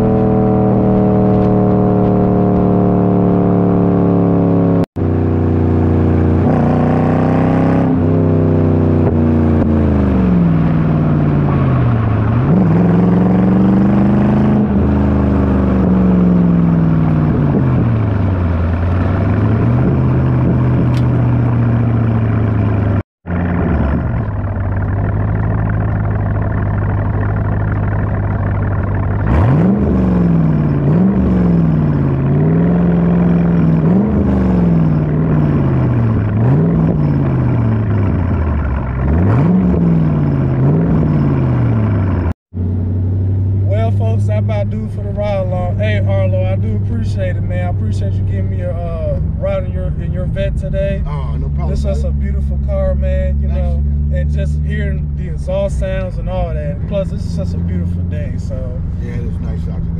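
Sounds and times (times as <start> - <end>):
car engine revving: 0.0 - 59.9
car engine idling: 8.3 - 59.9.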